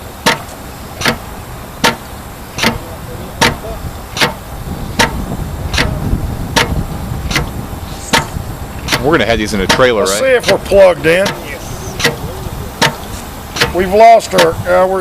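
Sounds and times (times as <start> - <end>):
low rumble: 0.0 - 15.0
air pump clicking: 0.1 - 14.6.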